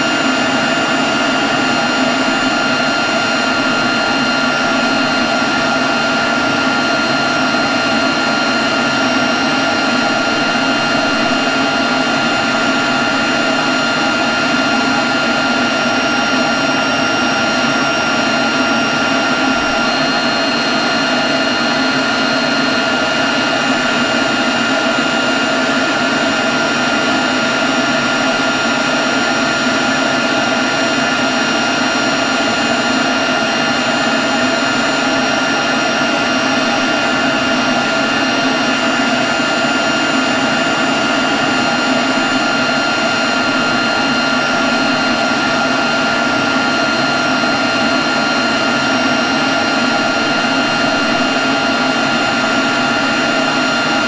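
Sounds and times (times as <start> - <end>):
leaf blower running: 0.0 - 54.0.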